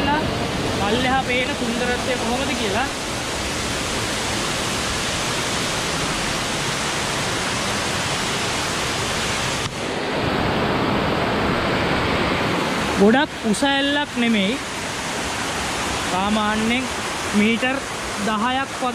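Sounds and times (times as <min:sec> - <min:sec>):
water cascading over rocks: 0:00.0 - 0:18.9
waterfall rushing: 0:00.0 - 0:18.9.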